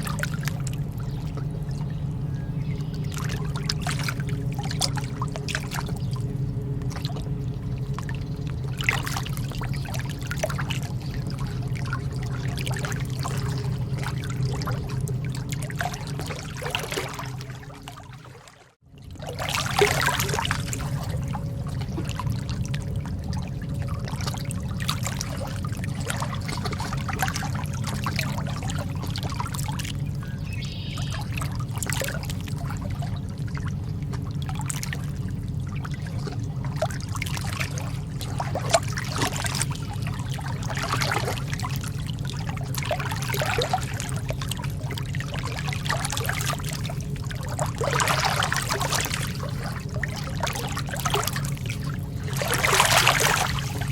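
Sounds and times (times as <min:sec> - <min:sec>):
sea water lapping: 0:00.0 - 0:53.9
steady low rumble: 0:00.0 - 0:53.9.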